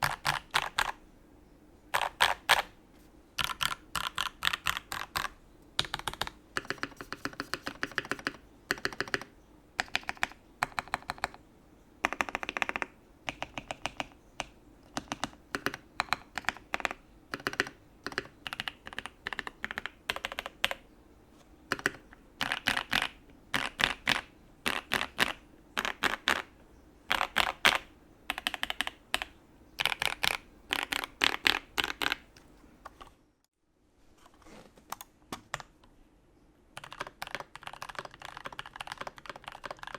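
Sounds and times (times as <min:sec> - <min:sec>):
typing on mechanical keyboard: 0:00.0 - 0:01.0, 0:01.9 - 0:02.7, 0:03.4 - 0:11.4, 0:12.0 - 0:20.8, 0:21.7 - 0:26.5, 0:27.1 - 0:33.1, 0:36.8 - 0:39.9.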